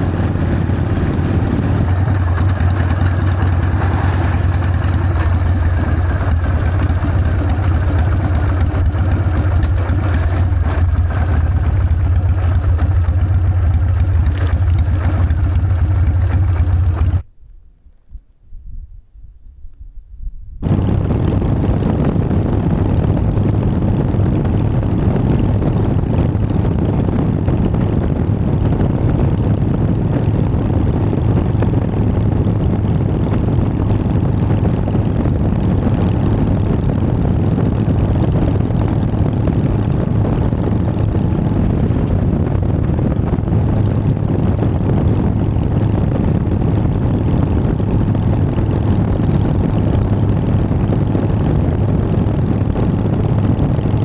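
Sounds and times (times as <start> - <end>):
motorcycle engine cruising: 0.0 - 17.3, 20.6 - 54.0.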